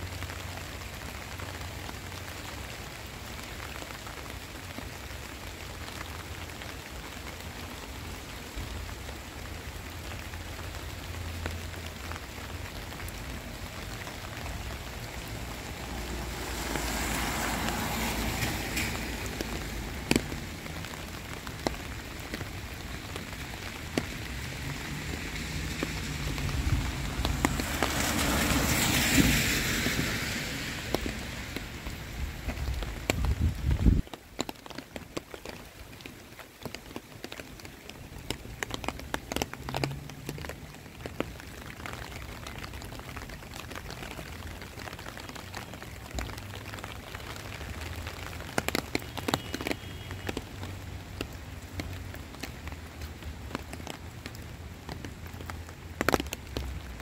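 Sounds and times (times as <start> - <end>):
heavy rain on street: 0.0 - 57.0.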